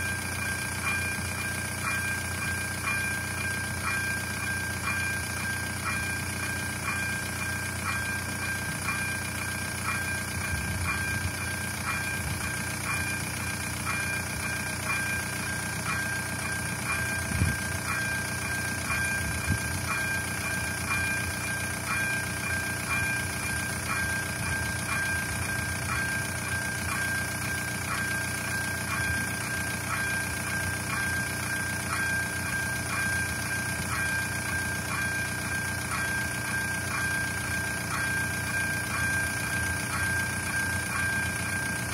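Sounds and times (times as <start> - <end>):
car engine idling: 0.0 - 41.9
crossing warning bell ringing: 0.0 - 41.9.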